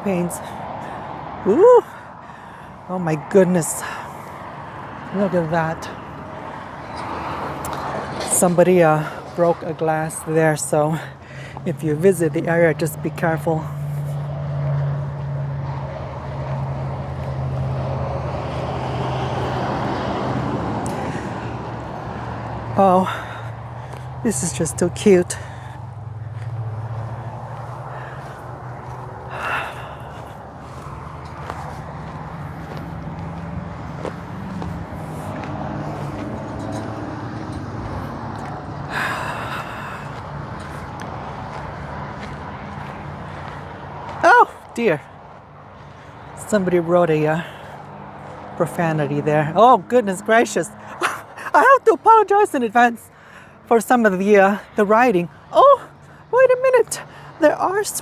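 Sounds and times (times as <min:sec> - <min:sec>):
road noise: 0:00.0 - 0:58.0
vehicle engine hum: 0:00.0 - 0:58.0.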